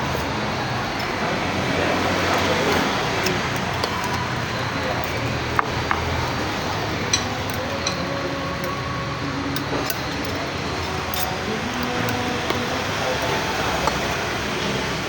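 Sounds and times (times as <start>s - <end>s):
utensils and dishes clinking: 0.1s - 15.0s.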